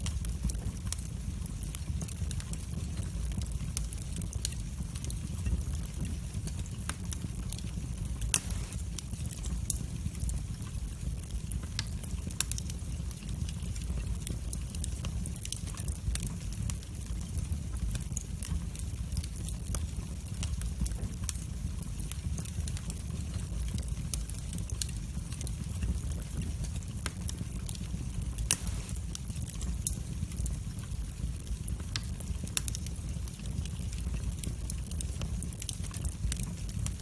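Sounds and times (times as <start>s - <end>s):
fire crackling and popping: 0.0s - 37.0s
flames rumbling: 0.0s - 37.0s.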